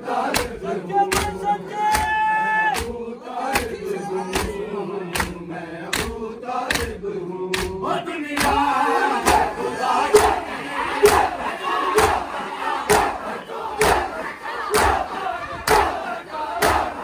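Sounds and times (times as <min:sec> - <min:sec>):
crowd shout: 0:00.0 - 0:05.3, 0:08.4 - 0:17.0
group chanting: 0:00.0 - 0:17.0
men slapping chests in unison: 0:00.1 - 0:17.0.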